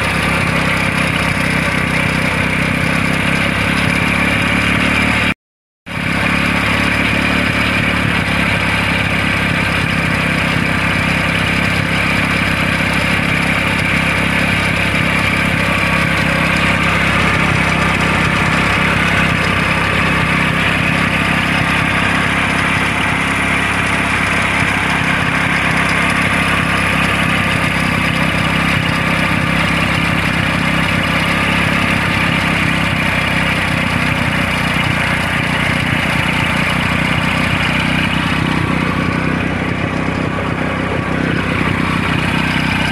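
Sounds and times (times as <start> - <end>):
motorcycle engine running steadily: 0.0 - 42.9.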